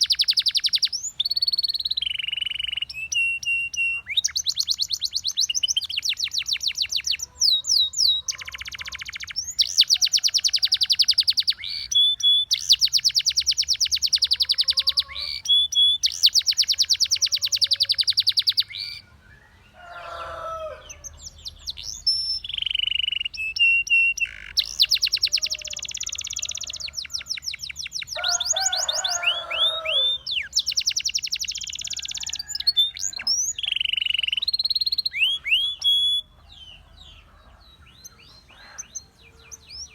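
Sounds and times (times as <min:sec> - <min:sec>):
canary trilling: 0:00.0 - 0:19.0, 0:19.8 - 0:39.9.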